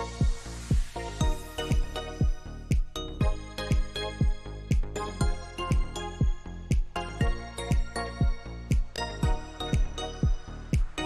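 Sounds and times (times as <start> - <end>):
deep kick drum: 0.0 - 11.0.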